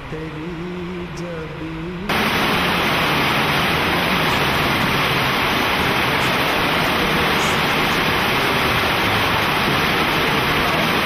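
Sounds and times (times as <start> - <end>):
river rushing over stones: 2.1 - 11.0.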